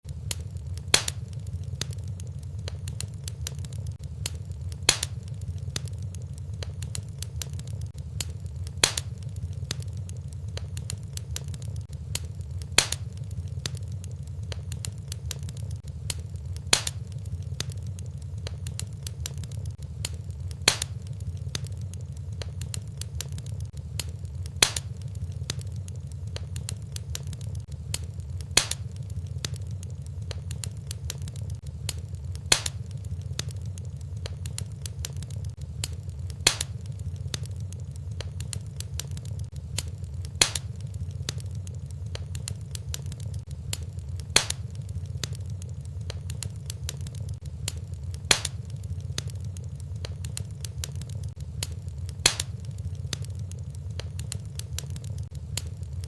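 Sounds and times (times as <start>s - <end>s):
fire crackling: 0.0s - 56.0s
low rumble: 0.0s - 56.0s
sharp fire pop: 0.1s - 25.7s, 26.3s - 33.6s, 34.2s - 41.5s, 42.2s - 55.7s.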